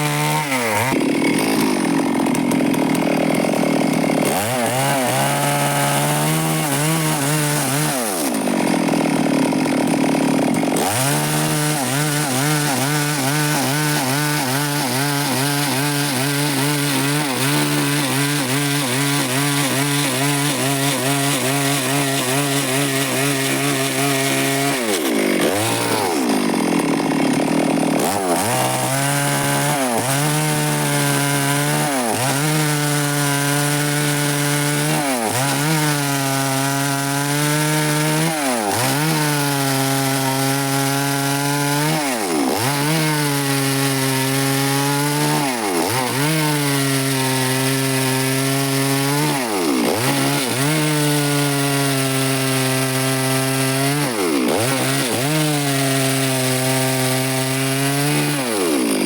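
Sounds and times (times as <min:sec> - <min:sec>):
chainsaw sawing wood: 0:00.0 - 0:59.0.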